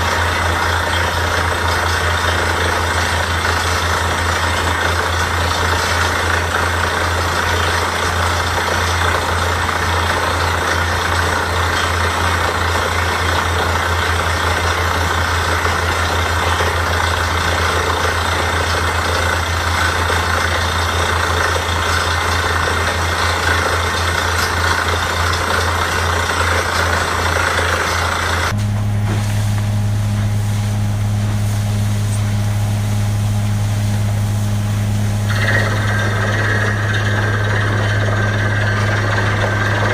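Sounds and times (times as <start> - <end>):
drilling rig engine hum: 0.0 - 39.9.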